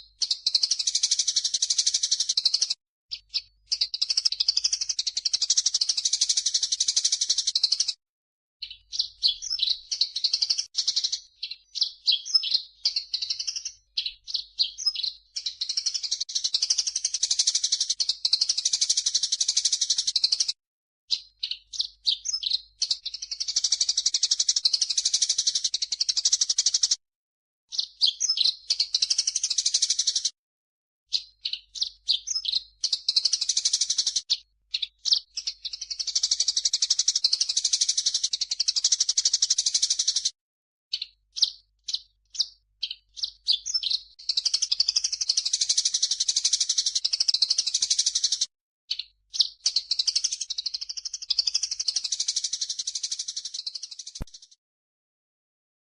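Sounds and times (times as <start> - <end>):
bird chirps and chattering: 0.0 - 8.0, 8.6 - 27.0, 27.7 - 30.3, 31.1 - 40.3, 40.9 - 54.6.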